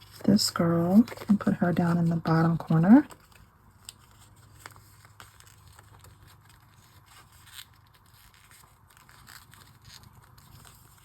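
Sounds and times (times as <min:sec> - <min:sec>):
paper rustling and clicking: 0:00.0 - 0:11.0.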